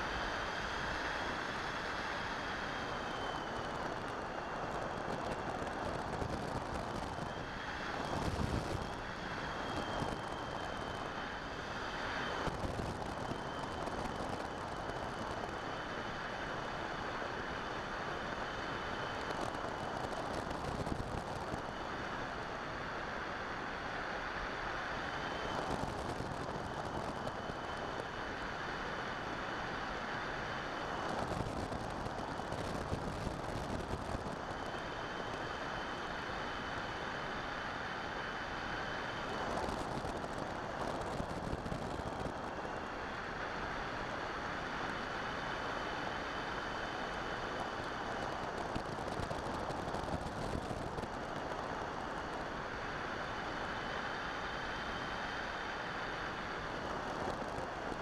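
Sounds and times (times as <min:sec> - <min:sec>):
faint high whine: 0:00.0 - 0:58.0.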